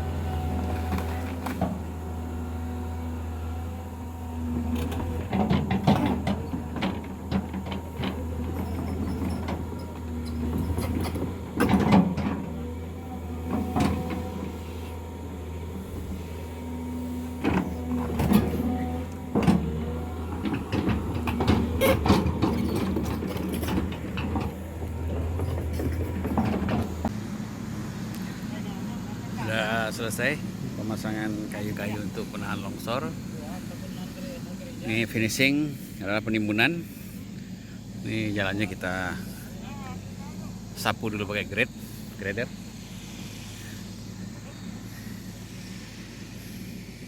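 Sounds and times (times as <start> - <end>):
heavy machinery diesel engine: 0.0 - 47.0.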